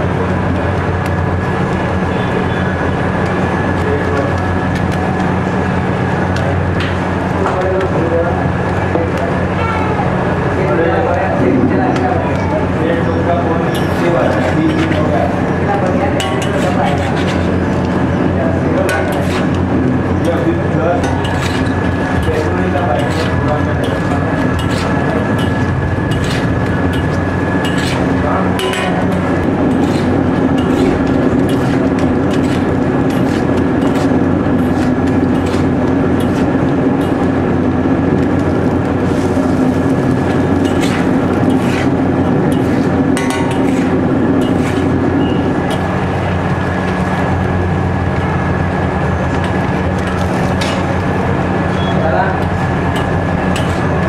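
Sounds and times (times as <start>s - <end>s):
high whine: 0.0s - 54.0s
mechanical rumble: 0.0s - 54.0s.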